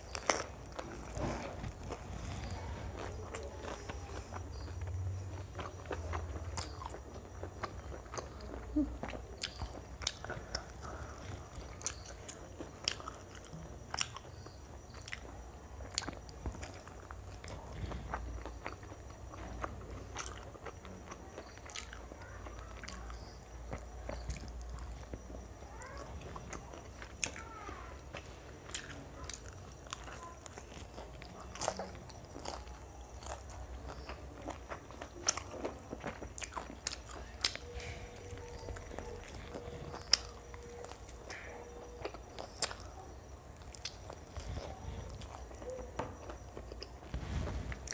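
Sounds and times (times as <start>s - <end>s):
person chewing crispy food: 0.0s - 47.9s.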